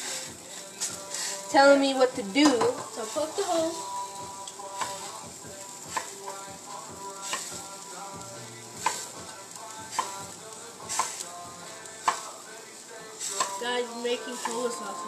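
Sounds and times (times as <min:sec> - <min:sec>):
sausages sizzling in a pan: 0:00.0 - 0:15.0.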